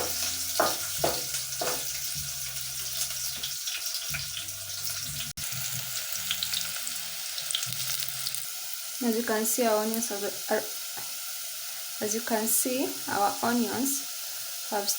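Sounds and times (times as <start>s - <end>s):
onions sizzling in oil: 0.0s - 14.9s.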